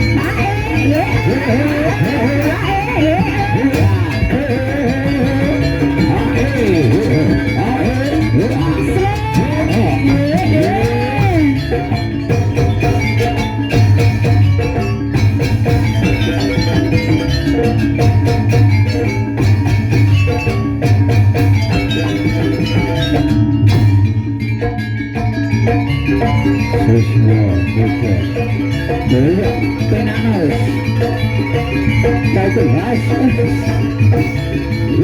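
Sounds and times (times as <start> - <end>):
mallet-struck metal instruments: 0.0 - 35.0
sliding melodic line: 0.0 - 35.0
steady drum beat: 0.0 - 35.0.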